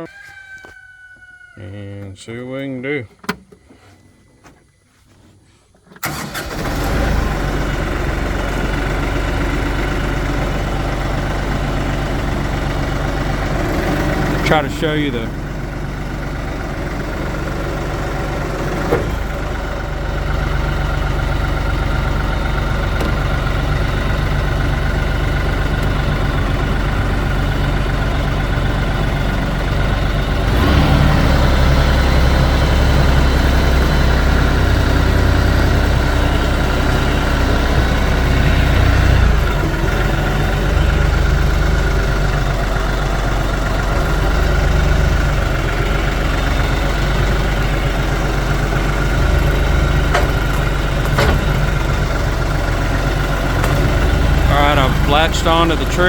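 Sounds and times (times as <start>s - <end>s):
tractor diesel engine running: 5.8s - 56.0s.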